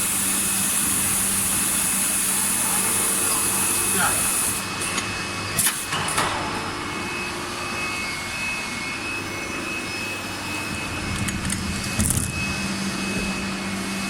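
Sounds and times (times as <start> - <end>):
injection moulding machine hum: 0.0 - 14.0.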